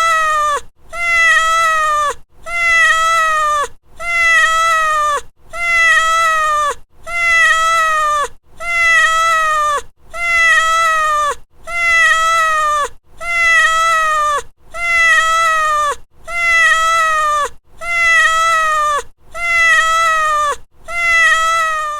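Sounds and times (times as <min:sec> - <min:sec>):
cat meowing: 0:00.0 - 0:21.9.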